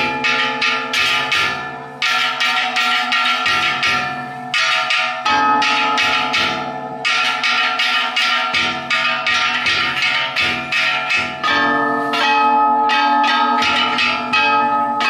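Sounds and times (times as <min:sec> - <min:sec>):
hand gongs clanging: 0:00.0 - 0:15.0
taiko drum strikes: 0:00.0 - 0:15.0.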